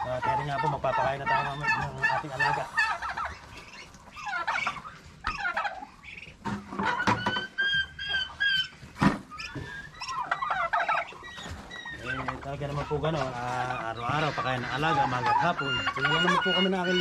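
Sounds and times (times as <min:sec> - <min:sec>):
turkeys and poultry calling: 0:00.0 - 0:17.0.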